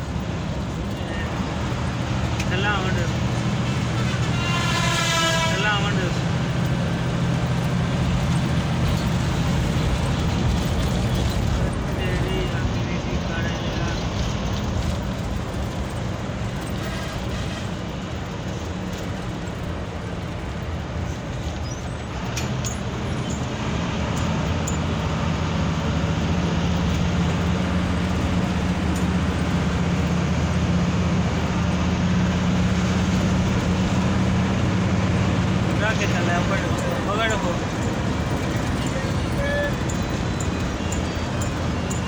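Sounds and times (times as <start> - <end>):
bus engine hum: 0.0 - 42.0
road and tyre noise: 0.0 - 42.0.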